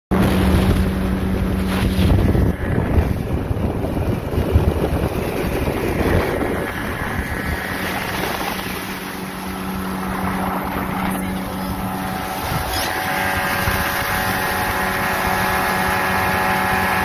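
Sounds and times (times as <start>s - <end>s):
outboard motor drone: 0.1s - 17.0s
water rushing: 0.1s - 17.0s
wind buffeting microphone: 0.1s - 17.0s.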